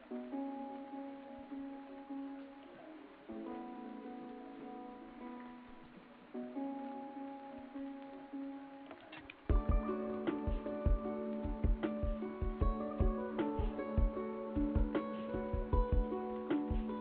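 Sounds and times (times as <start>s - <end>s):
instrumental music with held chords: 0.0s - 17.0s.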